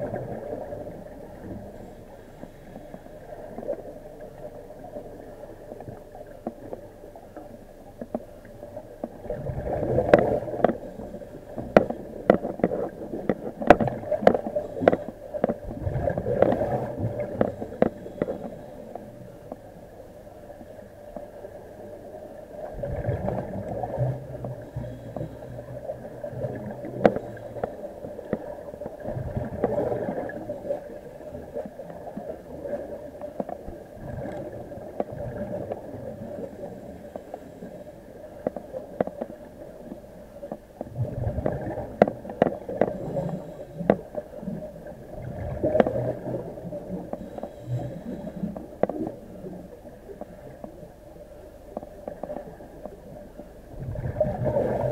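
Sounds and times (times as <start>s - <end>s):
steady hum: 0.0s - 54.9s
underwater breathing gurgles: 8.1s - 21.4s, 22.3s - 54.9s.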